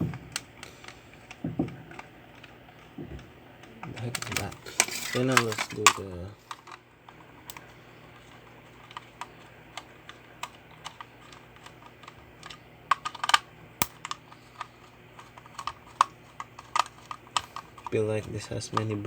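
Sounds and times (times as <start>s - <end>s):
plastic parts clicking and tapping: 0.0s - 19.0s.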